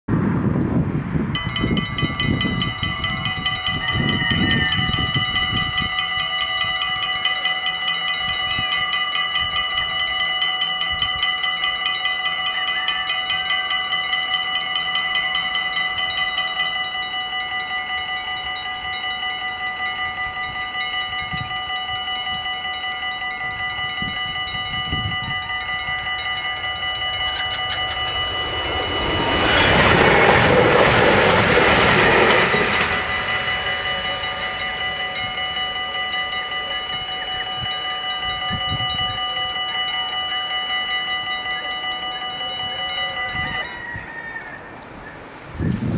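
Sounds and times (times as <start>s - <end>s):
train passing with rushing wheel noise: 0.2s - 45.9s
level-crossing warning bells ringing: 1.3s - 45.1s.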